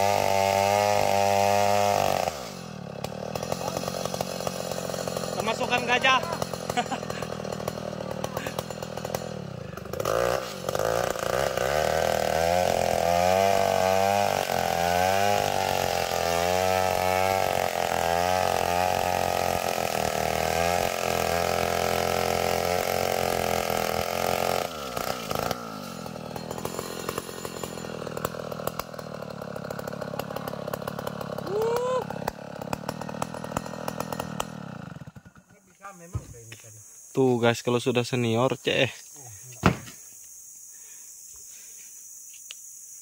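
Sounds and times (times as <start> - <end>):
chainsaw cutting a log: 0.0 - 36.5, 39.6 - 40.0.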